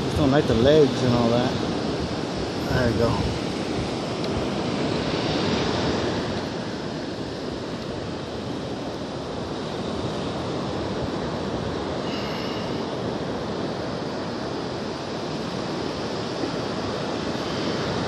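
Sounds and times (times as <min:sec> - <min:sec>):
ocean surf rushing: 0:00.0 - 0:18.0
wind buffeting microphone: 0:00.0 - 0:18.0.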